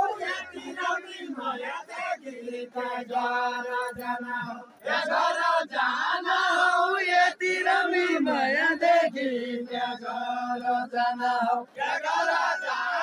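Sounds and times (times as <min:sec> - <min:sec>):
group of men singing: 0:00.0 - 0:13.0.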